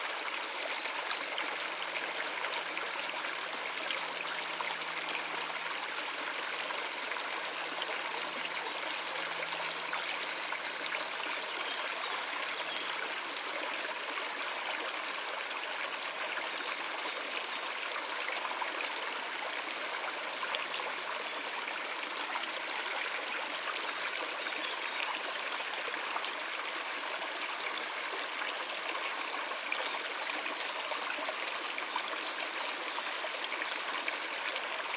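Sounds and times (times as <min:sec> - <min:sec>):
stream running over rocks: 0:00.0 - 0:34.9.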